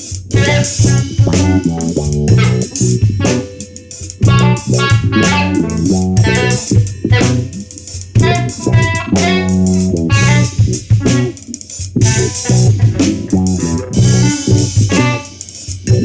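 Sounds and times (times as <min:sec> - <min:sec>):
bass guitar: 0:00.0 - 0:16.0
drum kit with cymbal hits: 0:00.0 - 0:16.0
electric guitar: 0:00.3 - 0:03.6, 0:04.2 - 0:07.6, 0:08.2 - 0:11.4, 0:12.0 - 0:15.3.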